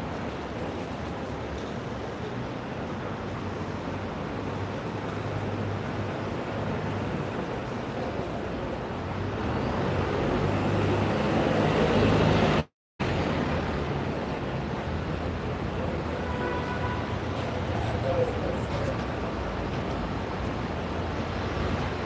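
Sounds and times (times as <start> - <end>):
street traffic engines humming: 0.0 - 22.0.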